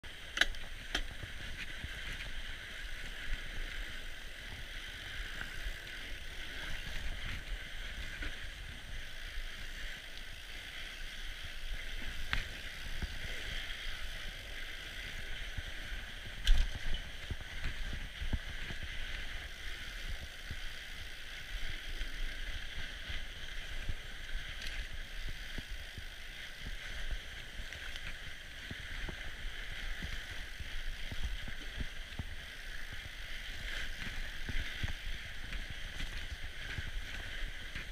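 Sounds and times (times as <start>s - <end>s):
bike tyres hissing on snow: 0.1s - 37.9s.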